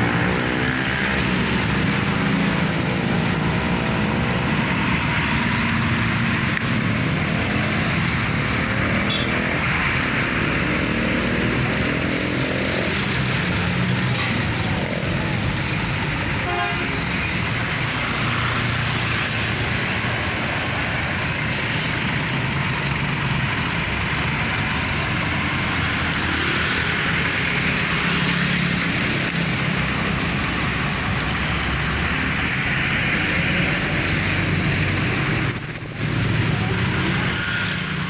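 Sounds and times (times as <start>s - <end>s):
traffic engine hum: 0.0s - 38.0s.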